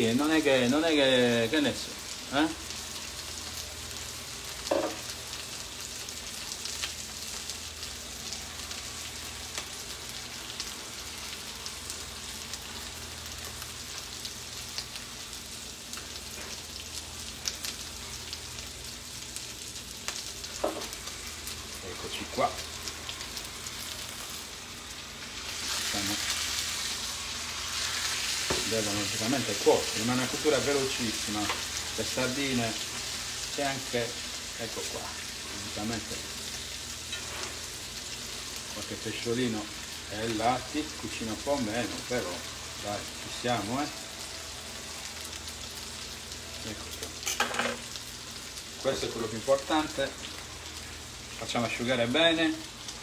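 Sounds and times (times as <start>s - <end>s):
fish sizzling in a frying pan: 0.0s - 53.0s.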